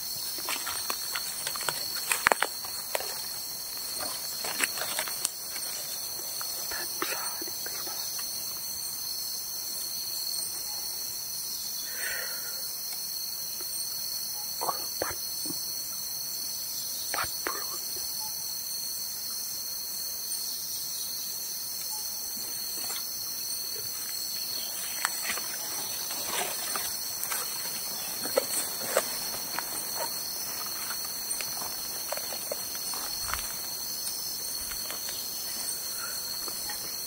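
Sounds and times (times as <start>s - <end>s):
forest insects droning: 0.0s - 37.0s.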